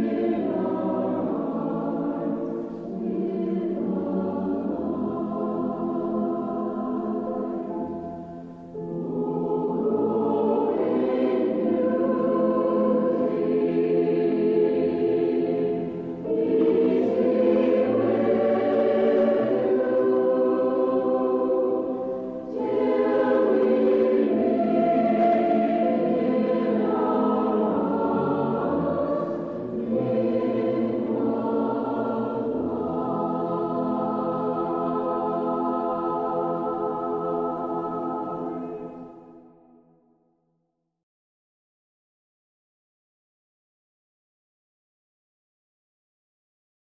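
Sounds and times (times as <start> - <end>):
choir chanting: 0.0 - 39.8.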